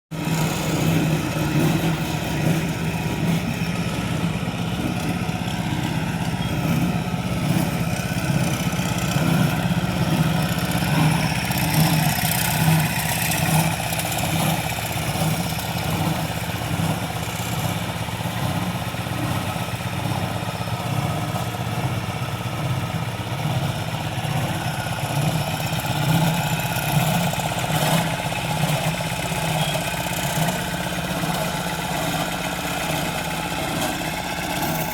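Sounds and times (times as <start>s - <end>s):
construction equipment engine running: 0.1s - 34.9s.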